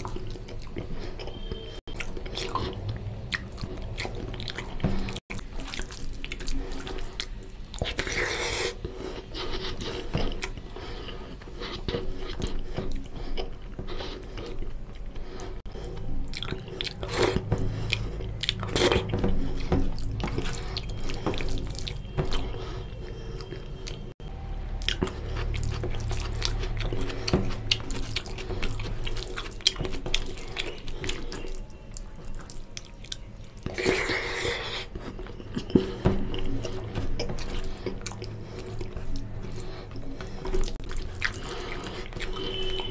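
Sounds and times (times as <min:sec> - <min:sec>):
mouth chewing and smacking: 0:00.0 - 0:24.2, 0:24.8 - 0:42.9.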